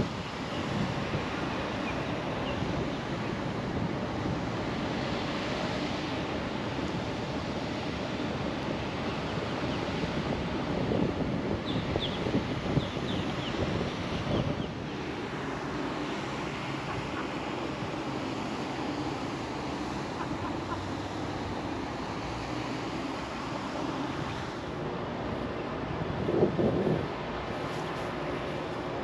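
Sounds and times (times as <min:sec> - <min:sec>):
wind rushing across microphone: 0:00.0 - 0:29.0.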